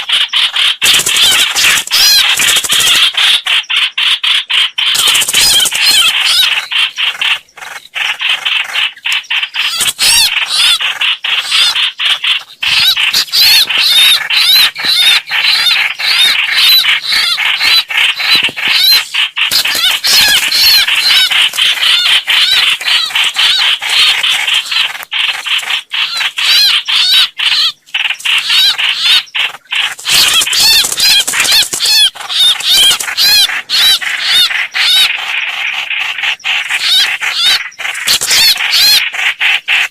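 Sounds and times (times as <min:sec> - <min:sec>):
bird chattering calls: 0:00.0 - 0:39.9.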